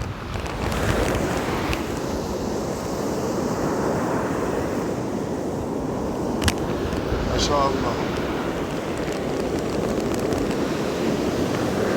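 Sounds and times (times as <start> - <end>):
sea waves breaking: 0.0 - 11.9
wind buffeting microphone: 0.0 - 11.9.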